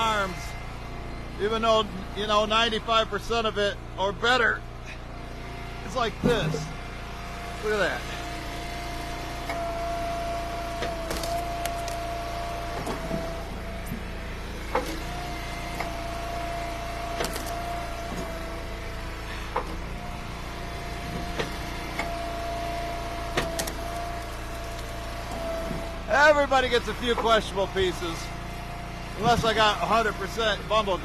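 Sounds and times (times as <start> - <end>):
log splitter pump whine: 0.0 - 31.0.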